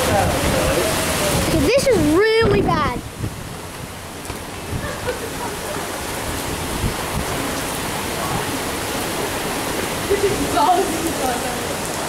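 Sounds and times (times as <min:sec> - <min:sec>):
strong wind rushing: 0:00.0 - 0:11.8
heavy driving rain: 0:00.0 - 0:12.0.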